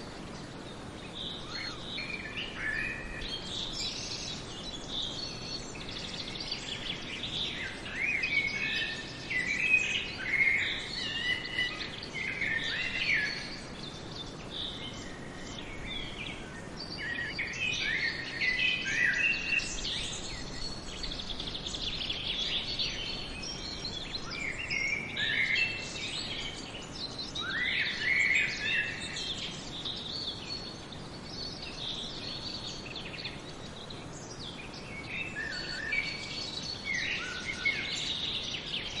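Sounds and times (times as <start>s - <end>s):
forest background hiss: 0.0s - 39.0s
songbirds singing: 0.0s - 39.0s.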